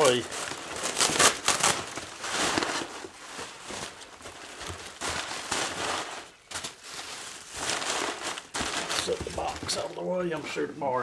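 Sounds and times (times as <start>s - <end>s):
packing material rustling: 0.0s - 10.2s.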